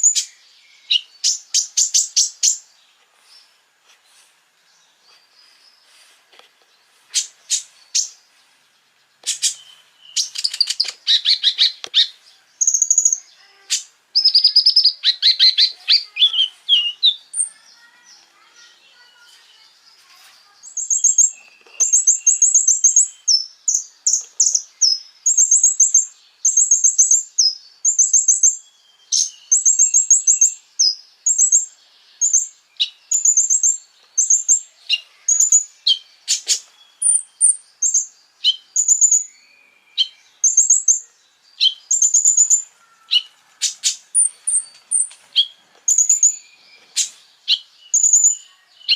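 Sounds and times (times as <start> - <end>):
songbird chirping and trilling: 0.0 - 48.9.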